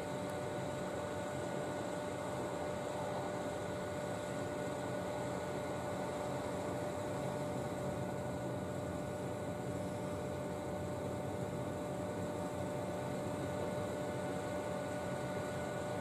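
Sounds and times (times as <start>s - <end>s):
electrical hum and whine: 0.0s - 16.0s.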